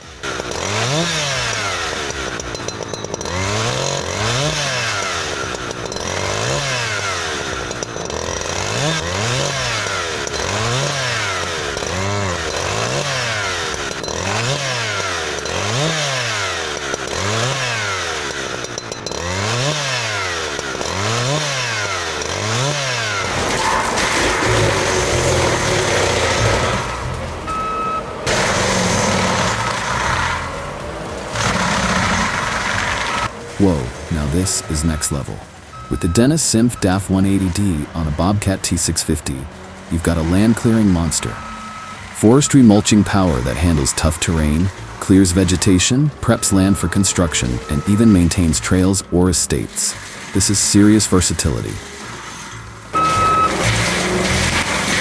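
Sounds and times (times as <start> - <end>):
chainsaw revving: 0.0 - 55.0
steady mechanical noise: 0.0 - 55.0.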